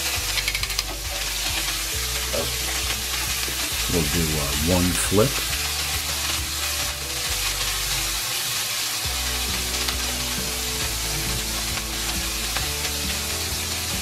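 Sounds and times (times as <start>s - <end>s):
background music: 0.0s - 14.0s
meat sizzling in a pan: 0.0s - 14.0s.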